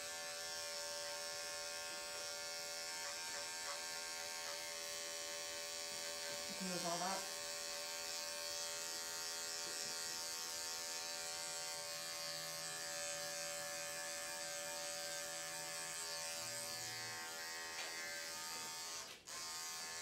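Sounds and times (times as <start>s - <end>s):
electric clipper buzzing: 0.0s - 20.0s.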